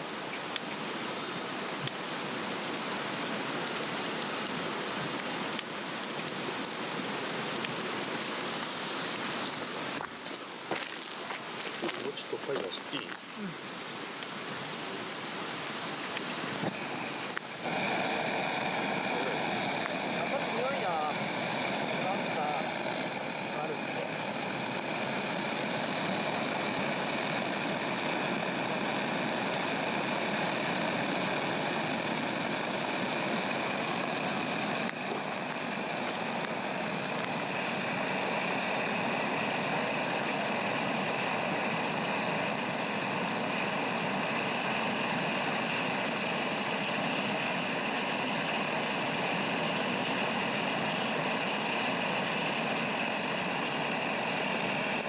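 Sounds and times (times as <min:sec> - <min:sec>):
gas torch jet roaring: 0:00.0 - 0:12.4, 0:15.8 - 0:55.0.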